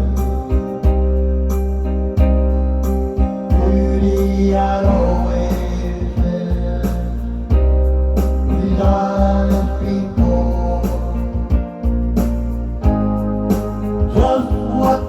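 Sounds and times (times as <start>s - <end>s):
person singing: 0.0s - 1.6s, 3.1s - 12.3s, 12.9s - 15.0s
strong steady bass: 0.0s - 15.0s.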